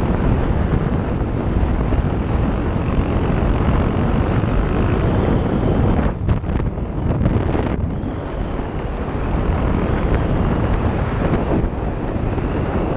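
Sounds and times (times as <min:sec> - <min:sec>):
motorcycle engine running: 0:00.0 - 0:12.9
wind rushing over microphone: 0:00.0 - 0:12.9.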